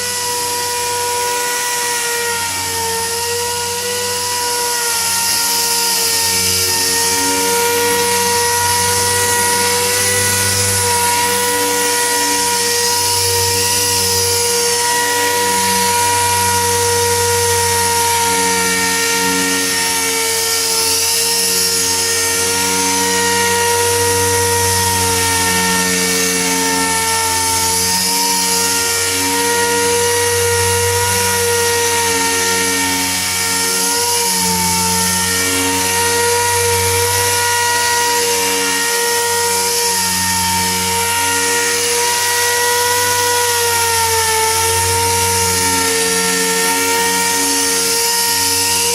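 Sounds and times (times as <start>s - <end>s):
air sander whining: 0.0s - 48.9s.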